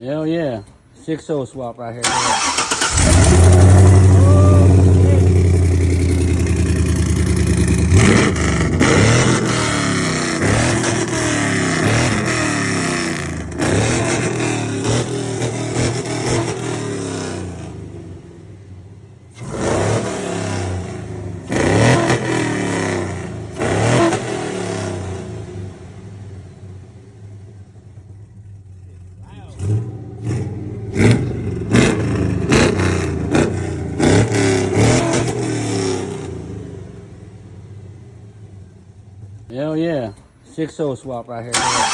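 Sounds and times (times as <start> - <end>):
car engine revving: 2.0 - 39.5, 41.5 - 41.9.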